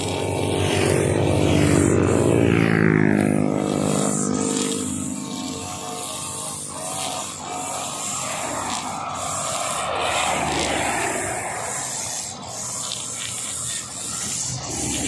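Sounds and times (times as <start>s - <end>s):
brush cutter engine droning: 0.0s - 15.0s
trimmer line whirring through grass: 0.0s - 15.0s.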